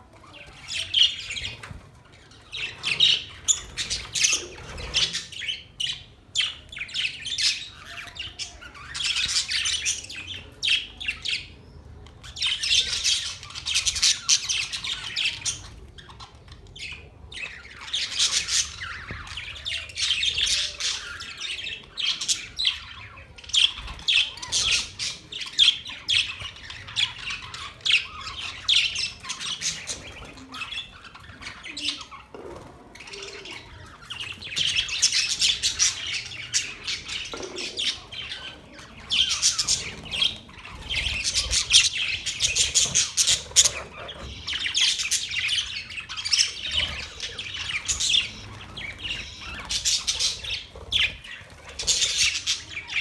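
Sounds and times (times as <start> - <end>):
budgerigars warbling and chirping: 0.2 - 53.0.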